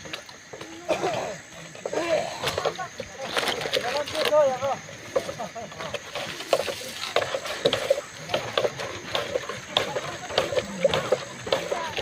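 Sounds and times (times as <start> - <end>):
tools knocking and scraping soil: 0.0 - 12.0.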